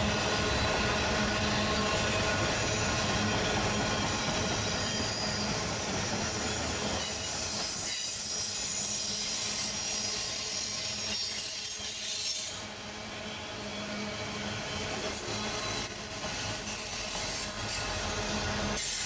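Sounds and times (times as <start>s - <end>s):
freight train rumble: 0.0s - 19.0s
steel wheels squealing on rail: 0.0s - 19.0s.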